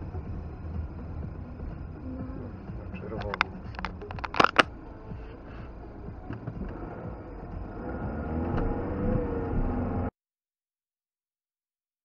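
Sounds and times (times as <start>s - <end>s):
car engine from inside cabin: 0.0s - 10.1s
road noise: 0.0s - 10.1s.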